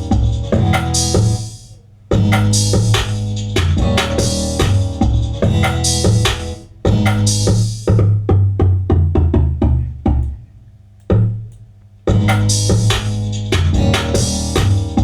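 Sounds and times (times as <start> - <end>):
electronic beat with deep bass: 0.0 - 10.4, 12.1 - 15.0.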